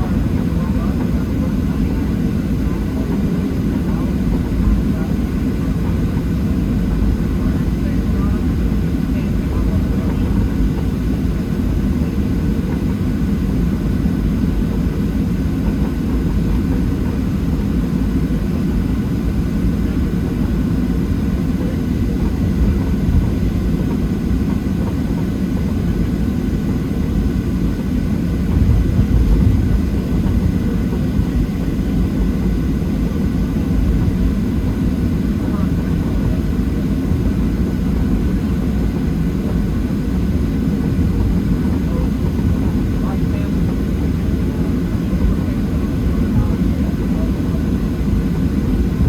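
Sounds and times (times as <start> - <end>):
aircraft cabin engine rumble: 0.0 - 49.0
faint engine whine: 0.0 - 49.0.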